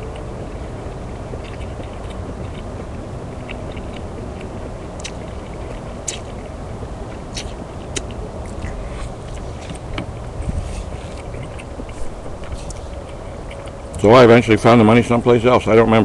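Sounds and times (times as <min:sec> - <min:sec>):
person chewing noodles: 0:00.0 - 0:14.0
steady low hum: 0:00.0 - 0:16.0.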